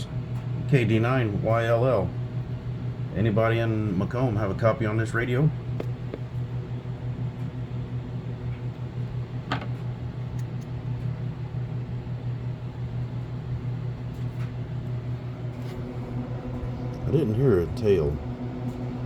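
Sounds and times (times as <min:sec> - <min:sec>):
machine hum with fast flutter: 0:00.0 - 0:19.0.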